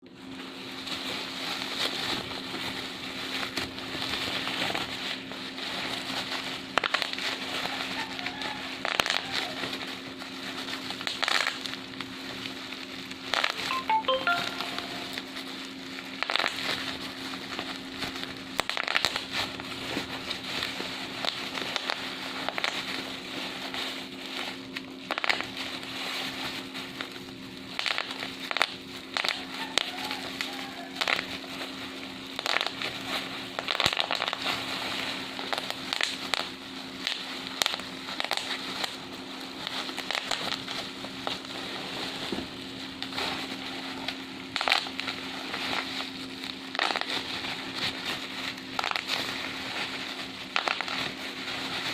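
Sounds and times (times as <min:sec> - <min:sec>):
bubble wrap crinkling and popping: 0:00.0 - 0:51.9.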